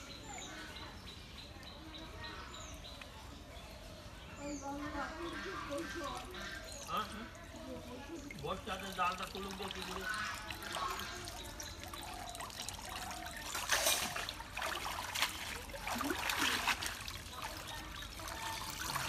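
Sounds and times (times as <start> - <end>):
water trickling and splashing: 0.0 - 19.0.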